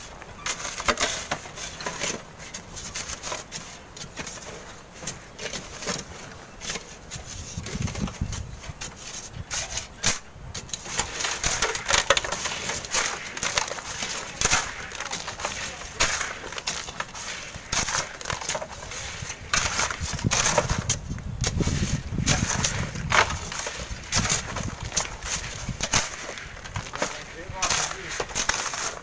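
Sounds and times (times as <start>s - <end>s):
shovels scraping sand and gravel: 0.0s - 29.0s
metal tools clinking on stones: 0.4s - 29.0s.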